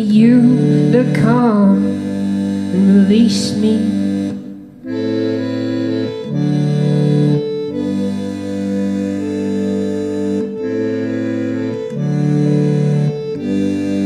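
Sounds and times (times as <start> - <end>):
organ-like keyboard chords: 0.0 - 14.0.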